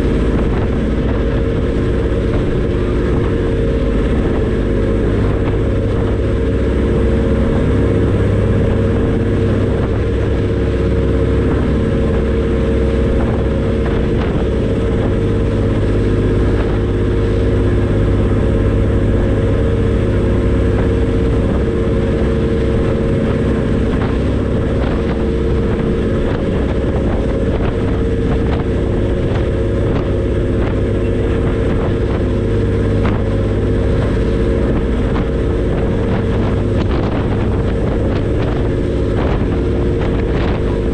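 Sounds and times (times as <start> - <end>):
ferry engines droning: 0.0 - 40.9.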